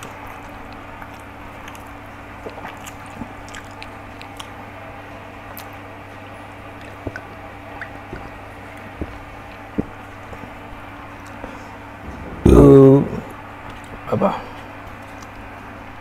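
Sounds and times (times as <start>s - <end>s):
soft chewing: 0.0s - 12.3s, 13.1s - 16.0s
steady low hum: 0.0s - 16.0s.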